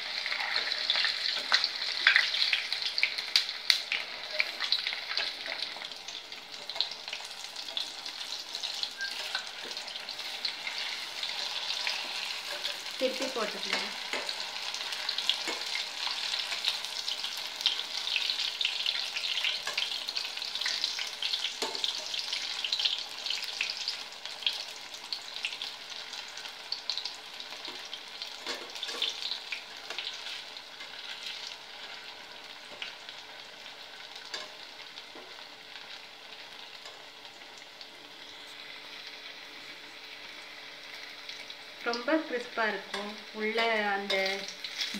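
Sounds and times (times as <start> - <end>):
food deep-frying in oil: 0.0 - 44.9.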